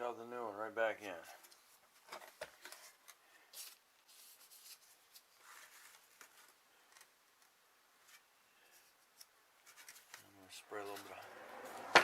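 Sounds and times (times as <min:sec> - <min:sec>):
soft rubbing and scratching: 0:01.1 - 0:07.1, 0:08.0 - 0:11.7.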